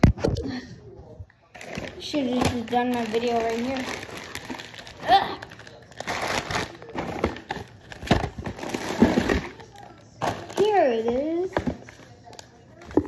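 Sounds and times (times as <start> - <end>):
candy packaging crinkling: 1.4 - 13.0.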